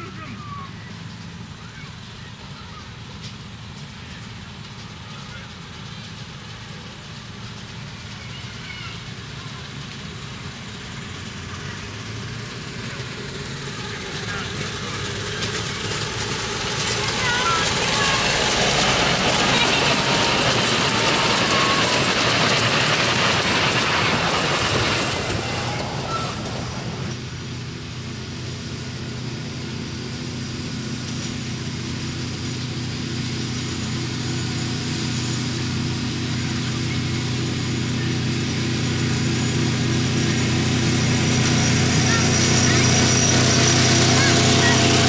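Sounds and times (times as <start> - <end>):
diesel locomotive engine hum: 0.0 - 45.0
railway coach wheels rolling on track: 0.0 - 45.0.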